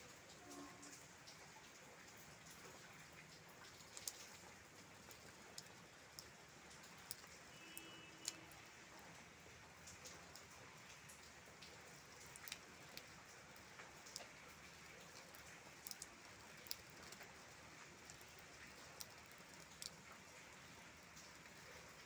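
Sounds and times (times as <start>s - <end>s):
light rain hissing on leaves: 0.0s - 22.0s
raindrops ticking: 0.0s - 22.0s.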